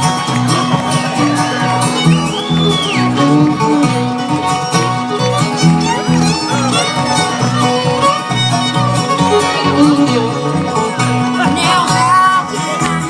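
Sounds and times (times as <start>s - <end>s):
bluegrass string band playing: 0.0s - 13.0s.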